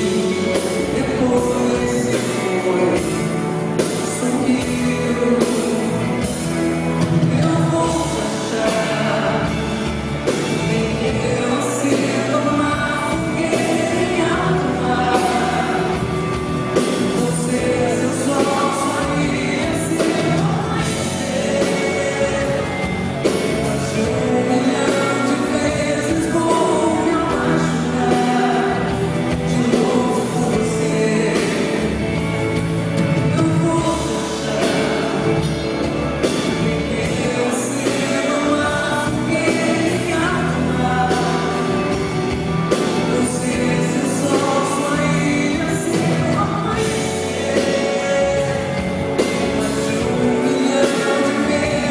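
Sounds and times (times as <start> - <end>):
live band music: 0.0 - 51.9
person singing: 0.0 - 51.9.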